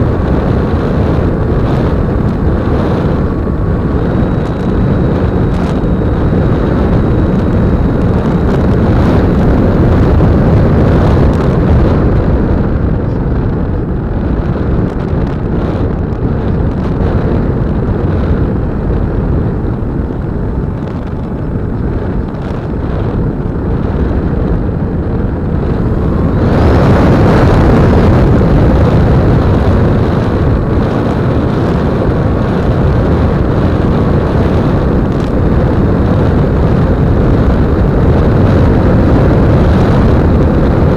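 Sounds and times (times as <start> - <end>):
model airplane motor and propeller: 0.0 - 40.9
wind rush: 0.0 - 40.9.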